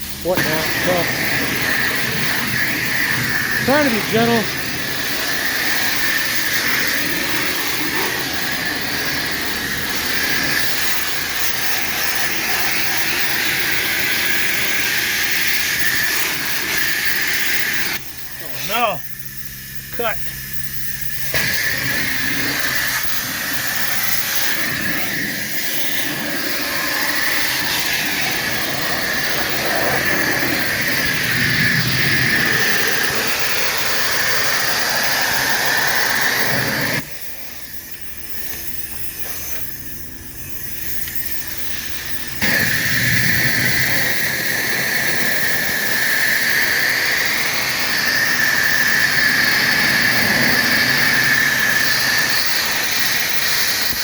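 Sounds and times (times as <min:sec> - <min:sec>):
power washer spraying water: 0:00.0 - 0:54.0.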